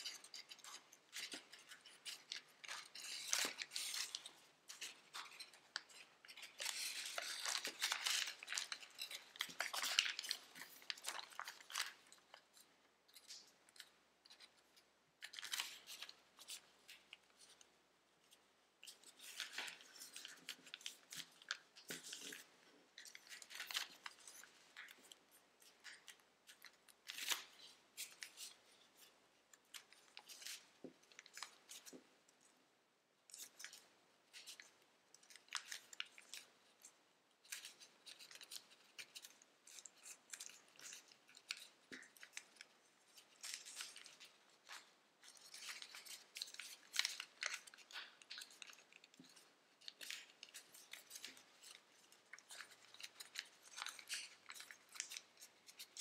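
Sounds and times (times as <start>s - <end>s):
paper rustling and crinkling: 0.0s - 32.1s, 33.3s - 56.0s.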